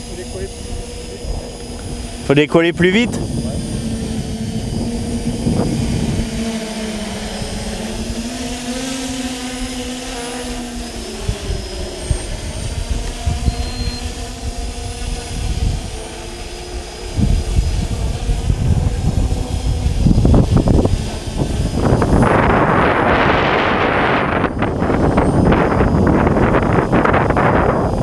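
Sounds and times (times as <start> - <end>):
drone propellers humming: 0.0 - 28.0
wind rumble on microphone: 0.0 - 28.0.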